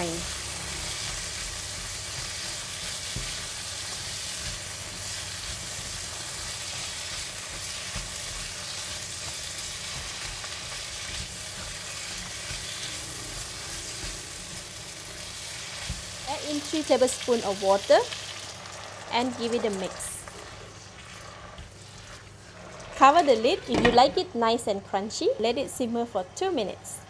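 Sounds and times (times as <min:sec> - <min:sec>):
beans sizzling in a wok: 0:00.0 - 0:23.7.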